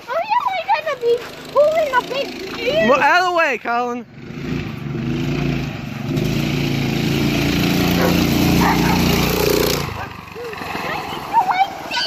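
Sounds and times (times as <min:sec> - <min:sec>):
go-kart engine running hard: 0:00.0 - 0:03.2, 0:04.0 - 0:12.0.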